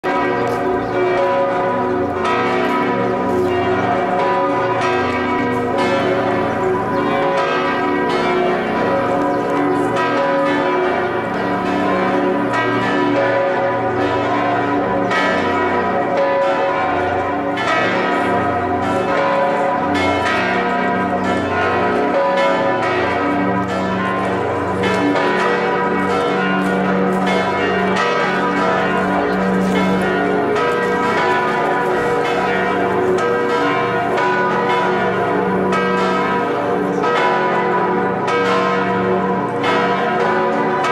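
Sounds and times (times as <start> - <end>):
church bells ringing in peal: 0.0 - 40.9.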